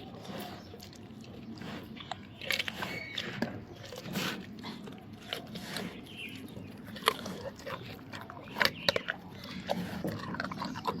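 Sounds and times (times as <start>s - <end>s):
tiger cub chewing meat: 0.0s - 11.0s.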